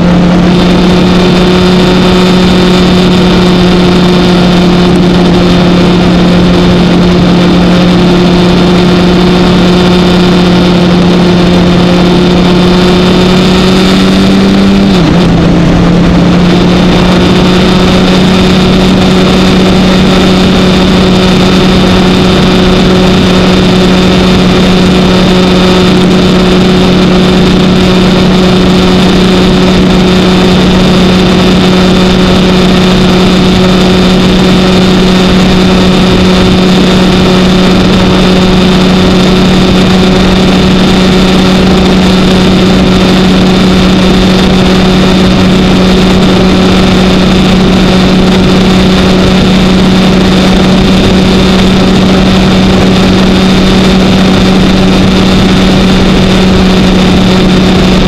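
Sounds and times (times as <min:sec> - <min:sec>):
motorcycle engine drone: 0:00.0 - 0:58.0
wind and road noise: 0:00.0 - 0:58.0.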